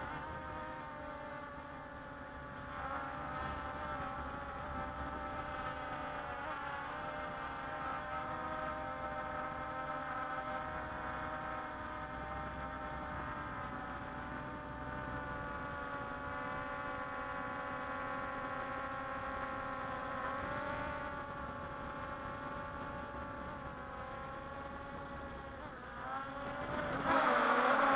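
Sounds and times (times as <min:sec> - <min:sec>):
drone propellers buzzing: 0:00.0 - 0:27.9.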